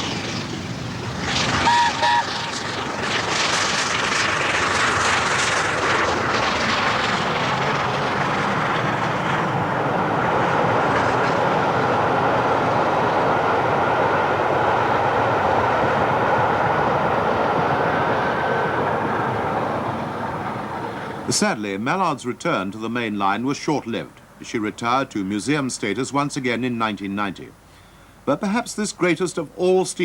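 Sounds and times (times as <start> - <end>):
steam locomotive running: 0.0 - 27.1.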